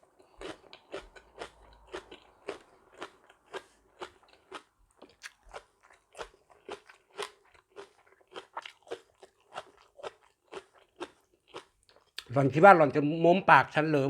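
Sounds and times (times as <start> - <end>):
person chewing crunchy food: 0.0 - 12.3.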